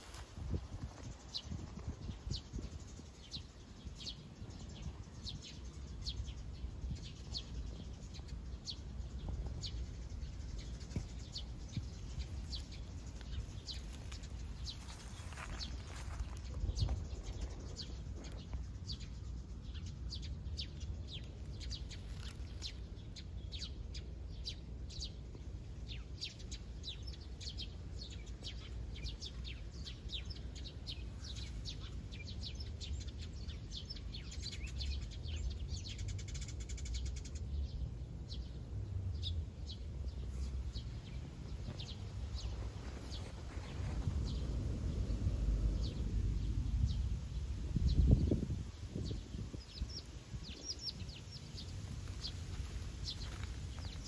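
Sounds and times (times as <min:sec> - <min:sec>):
low steady rumble: 0:00.0 - 0:54.0
small birds chirping: 0:00.0 - 0:54.0.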